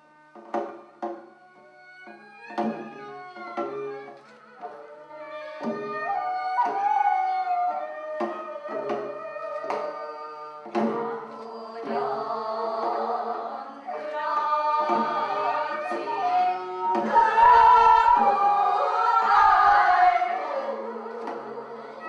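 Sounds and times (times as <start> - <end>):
instrumental accompaniment: 0.0 - 22.0
group singing traditional song: 2.6 - 22.0.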